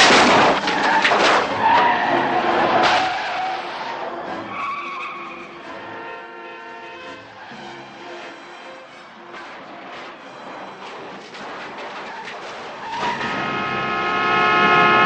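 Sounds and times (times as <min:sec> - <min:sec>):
car tyres skidding: 0:00.0 - 0:15.0.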